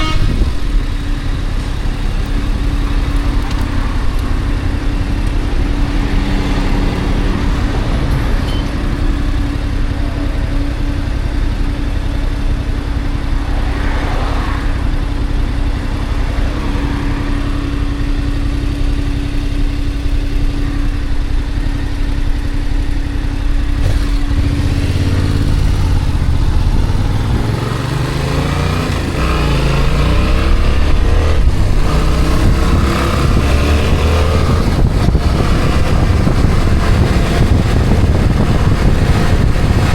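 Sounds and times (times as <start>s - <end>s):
road noise: 0.0s - 39.9s
vehicle engine running: 0.0s - 39.9s.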